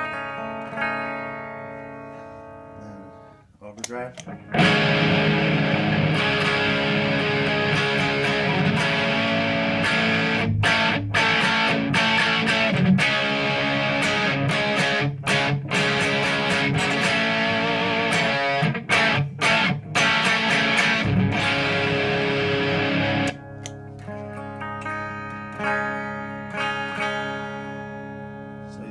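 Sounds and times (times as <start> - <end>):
distorted electric guitar chords: 0.0 - 3.4, 4.2 - 28.9.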